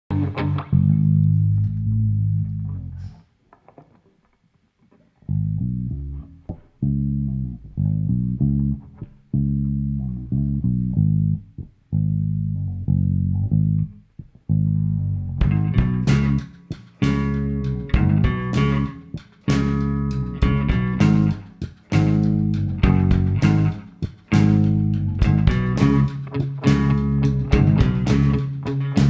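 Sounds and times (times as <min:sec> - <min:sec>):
electric bass guitar riff: 0:00.1 - 0:03.3, 0:05.2 - 0:29.0.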